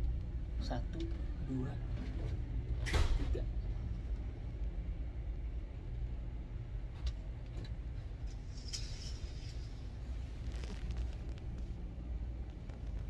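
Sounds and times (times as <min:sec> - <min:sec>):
ship machinery rumble and hum: 0:00.0 - 0:13.0.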